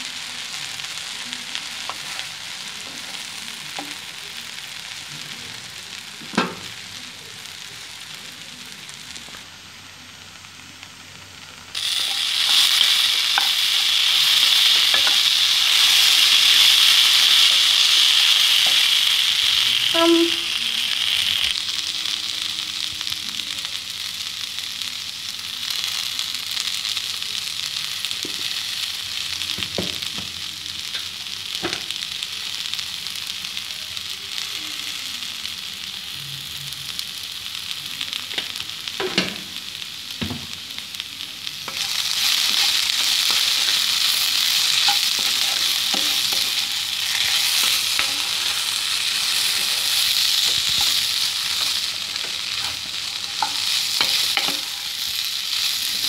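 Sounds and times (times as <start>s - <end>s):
okra sizzling in oil: 0.0s - 56.0s.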